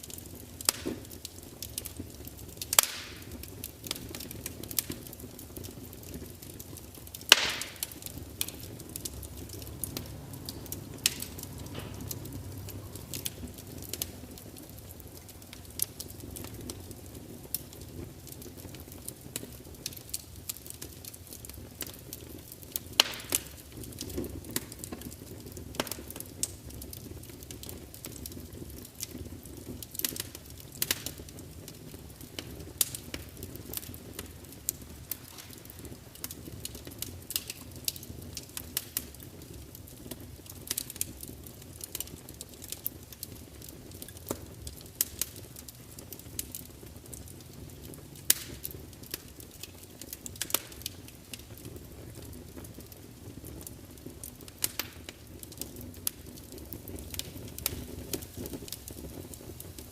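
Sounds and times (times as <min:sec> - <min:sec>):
logs crackling and popping: 0:00.0 - 0:59.9
low rumble of fire flames: 0:00.0 - 0:59.9.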